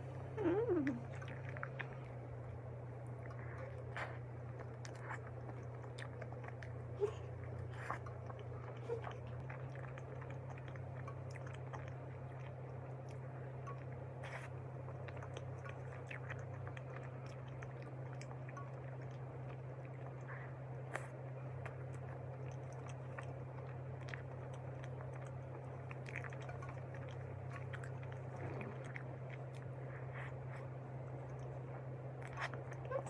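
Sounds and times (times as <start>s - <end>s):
person chewing soft bun: 0.0s - 33.0s
steady low hum: 0.0s - 33.0s.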